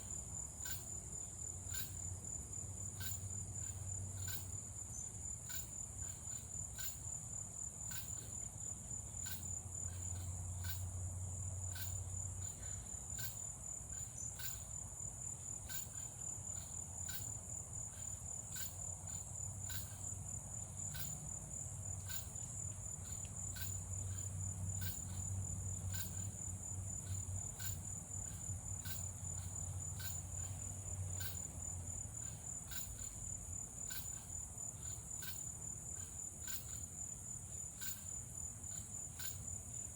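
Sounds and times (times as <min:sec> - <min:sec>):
cricket chirps: 0:00.0 - 0:39.9
crickets trilling: 0:00.0 - 0:39.9.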